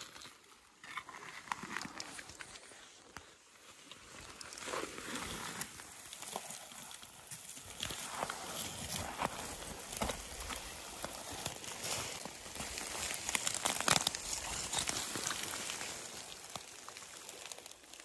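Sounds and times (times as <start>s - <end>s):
crunching of dry seaweed: 0.0s - 18.0s.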